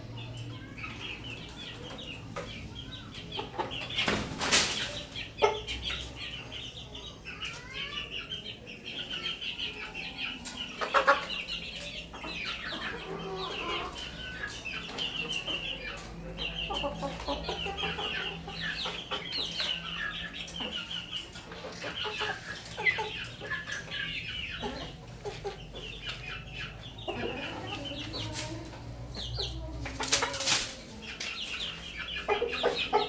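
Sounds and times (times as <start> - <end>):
chicks peeping: 0.0 - 33.0
hen clucking: 0.1 - 33.0.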